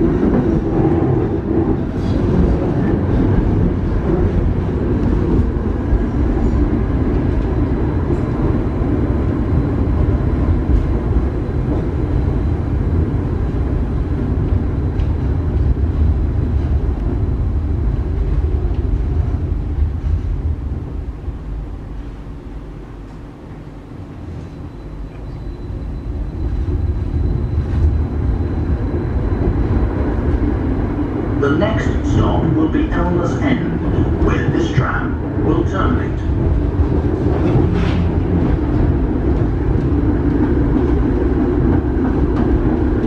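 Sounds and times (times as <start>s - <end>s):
tram wheels rumbling on rails: 0.0s - 43.0s.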